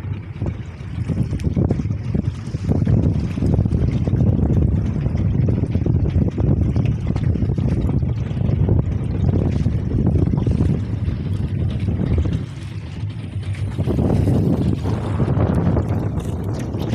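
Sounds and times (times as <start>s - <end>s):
boat engine humming: 0.0s - 16.9s
wind buffeting microphone: 0.0s - 16.9s.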